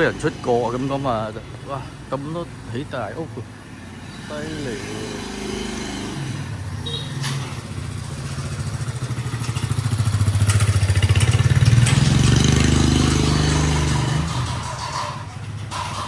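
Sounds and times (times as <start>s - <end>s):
small motorcycle engine: 0.0s - 1.4s, 3.5s - 16.0s.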